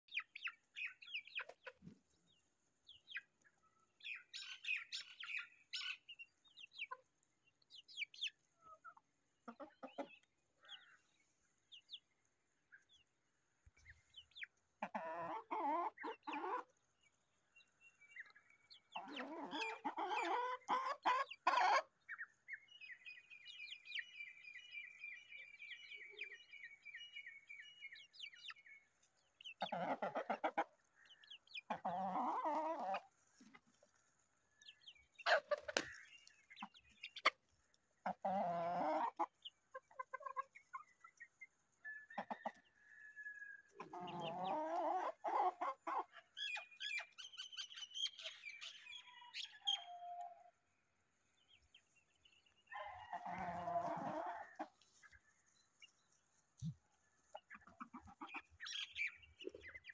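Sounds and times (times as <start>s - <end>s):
fuller bird calls: 0.0s - 50.6s, 51.3s - 59.9s
birds chirping: 0.0s - 59.9s.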